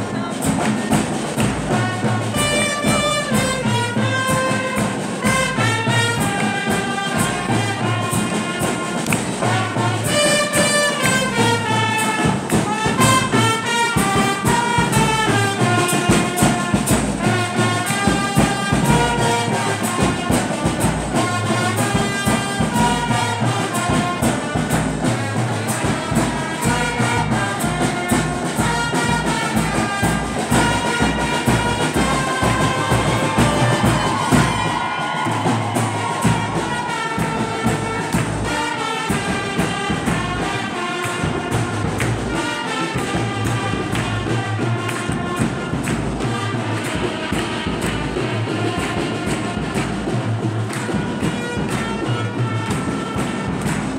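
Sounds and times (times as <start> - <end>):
congregation singing a hymn: 0.0 - 51.9.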